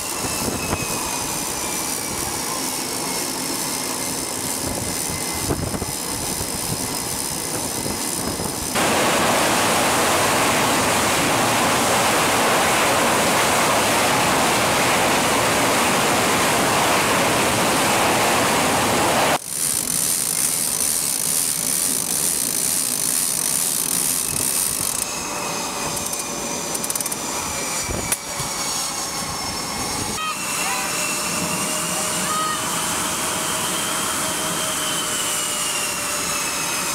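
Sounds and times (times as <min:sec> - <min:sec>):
jet engines roaring and whining: 0:00.0 - 0:36.9.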